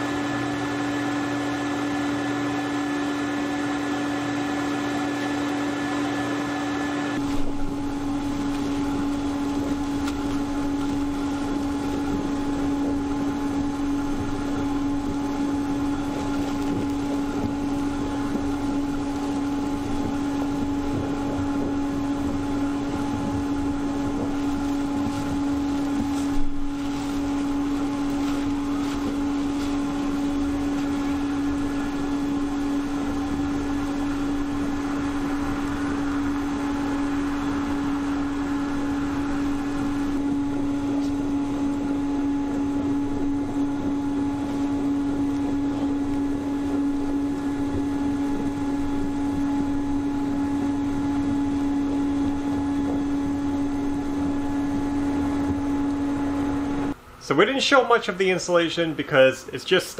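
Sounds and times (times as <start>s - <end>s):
insulation hissing through hose: 0.0s - 59.8s
insulation blowing machine humming: 0.0s - 59.9s.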